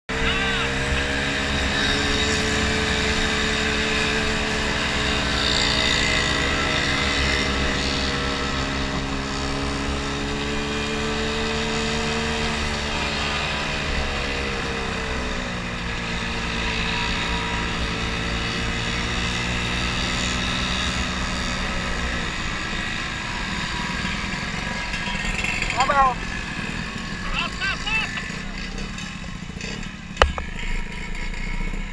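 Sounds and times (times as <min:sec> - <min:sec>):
scooter engine running: 0:00.1 - 0:31.9.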